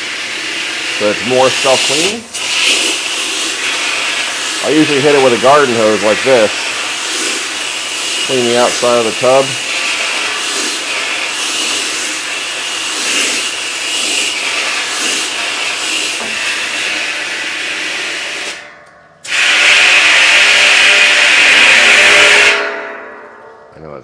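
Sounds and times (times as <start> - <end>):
hose spraying water jet: 0.0 - 18.6, 19.3 - 22.6.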